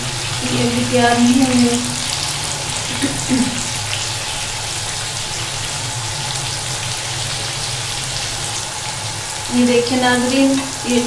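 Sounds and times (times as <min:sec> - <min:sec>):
low steady hum: 0:00.0 - 0:11.0
vegetables sizzling in hot oil: 0:00.0 - 0:11.0.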